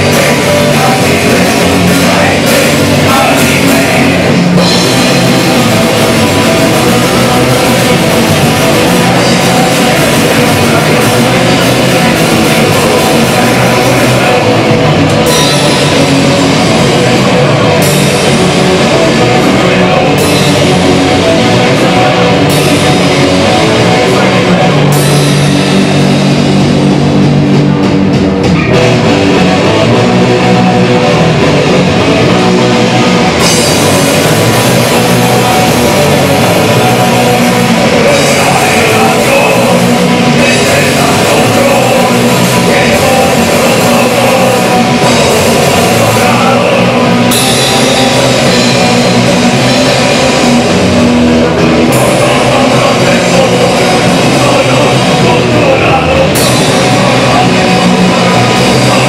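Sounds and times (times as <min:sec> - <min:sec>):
drum kit with cymbals: 0:00.0 - 0:59.0
electric guitars: 0:00.0 - 0:59.0.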